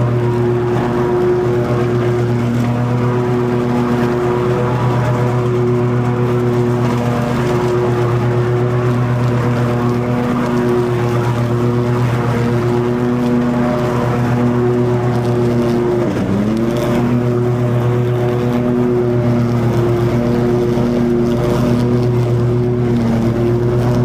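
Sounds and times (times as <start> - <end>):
lawn mower engine drone: 0.0 - 24.0
mower blades cutting grass: 0.0 - 24.0.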